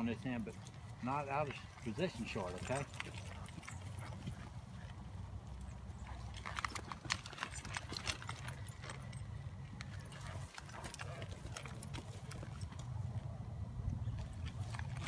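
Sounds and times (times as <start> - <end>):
horse hoofbeats on soft dirt: 0.0 - 15.0.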